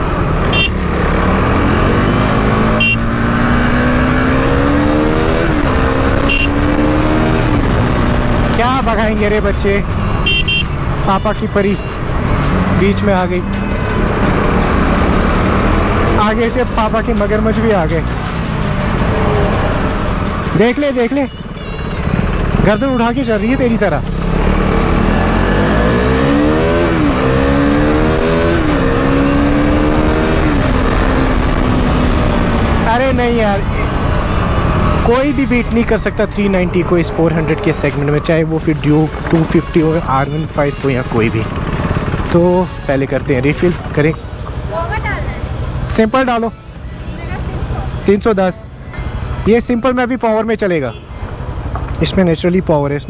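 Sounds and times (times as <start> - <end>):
motorcycle engine accelerating: 0.0 - 11.0, 12.0 - 21.2, 22.0 - 46.4
wind and road noise: 0.0 - 53.0.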